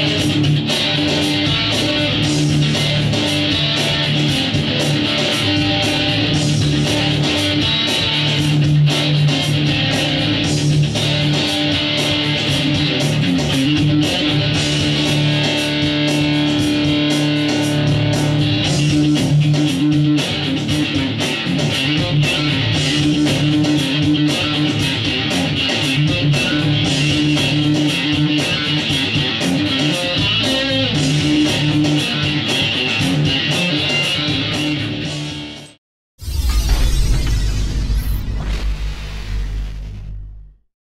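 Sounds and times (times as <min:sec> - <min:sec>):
electric guitar picked notes: 0:00.0 - 0:35.4.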